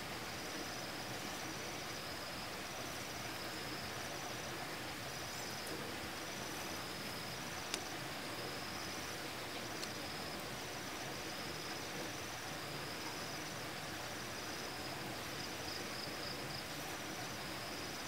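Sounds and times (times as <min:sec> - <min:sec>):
steady hiss: 0:00.0 - 0:18.0
insects trilling: 0:00.1 - 0:18.0.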